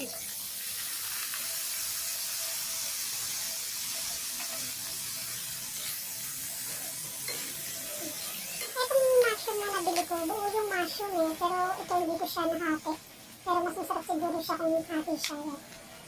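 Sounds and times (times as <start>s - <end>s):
mushrooms sizzling in a frying pan: 0.0s - 16.0s.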